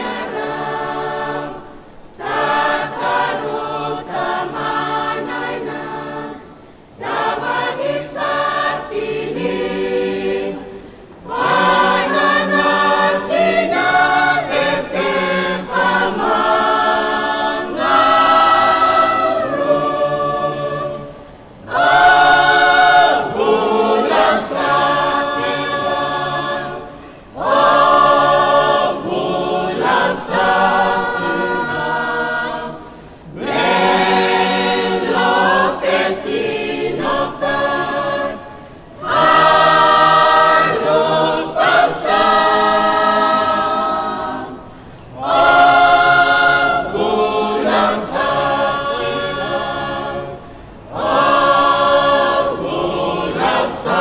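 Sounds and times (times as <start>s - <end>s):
choir singing a hymn a cappella: 0.0s - 54.0s.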